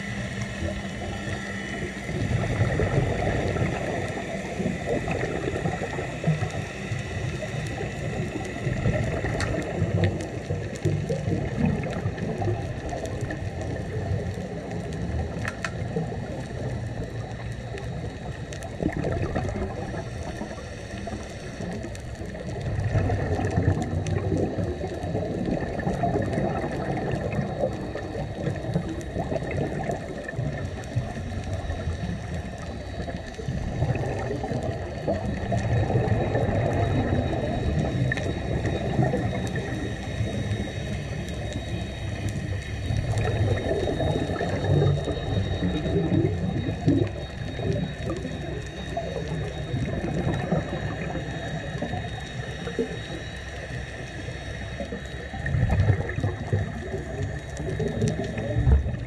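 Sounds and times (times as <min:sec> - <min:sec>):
scuba exhaust bubbles gurgling: 0:00.0 - 0:59.0
faint clicks: 0:03.4 - 0:59.0.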